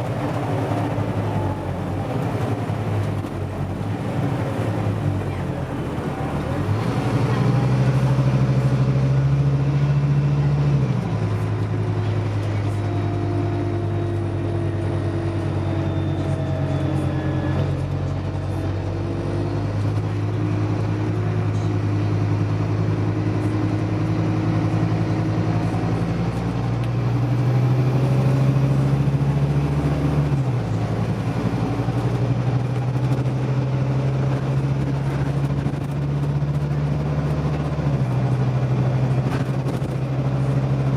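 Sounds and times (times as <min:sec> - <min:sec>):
diesel bus engine: 0:00.0 - 0:40.9.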